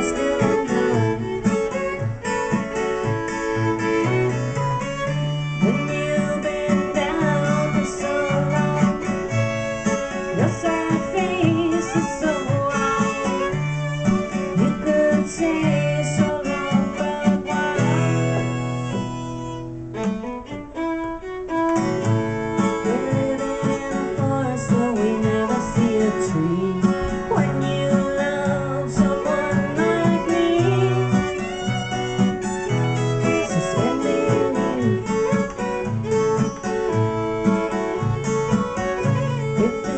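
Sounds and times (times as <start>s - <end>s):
acoustic guitar strumming: 0.0s - 39.9s
fiddle bowing: 0.0s - 39.9s.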